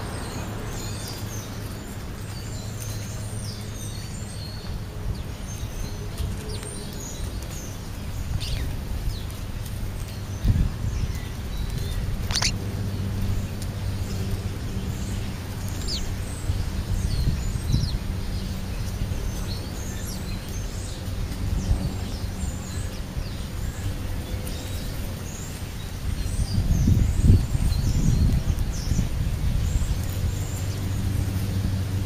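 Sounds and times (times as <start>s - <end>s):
birds chirping: 0.0s - 32.0s
low rumble with hum: 0.0s - 32.0s.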